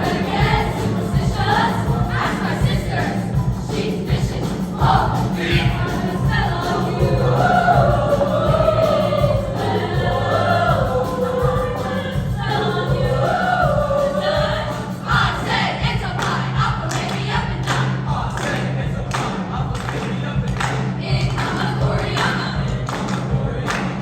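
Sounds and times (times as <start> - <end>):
girls' choir singing: 0.0 - 24.0.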